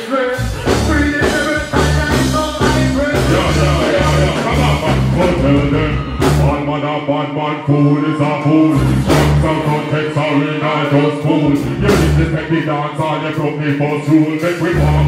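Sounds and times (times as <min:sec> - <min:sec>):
dancehall music with bass and beat: 0:00.0 - 0:15.0
man singing: 0:00.0 - 0:15.0.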